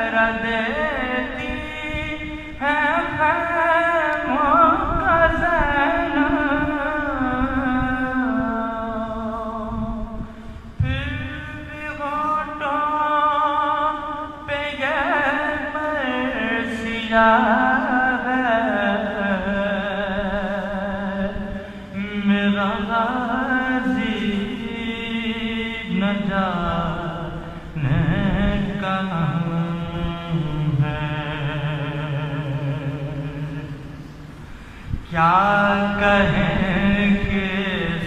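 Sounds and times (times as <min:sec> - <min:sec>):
man chanting: 0:00.0 - 0:34.2, 0:34.9 - 0:38.0.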